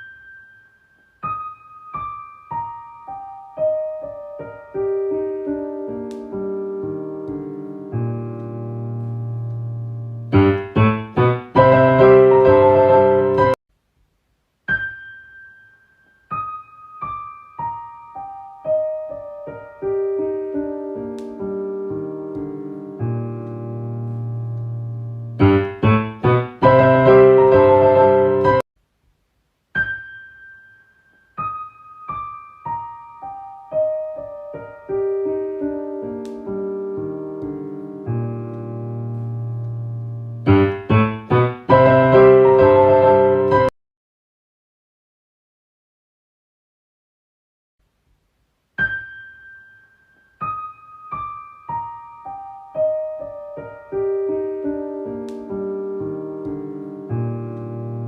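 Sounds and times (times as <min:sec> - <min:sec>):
solo piano music: 0:00.0 - 0:13.6, 0:14.6 - 0:28.7, 0:29.6 - 0:43.7, 0:48.6 - 0:58.0.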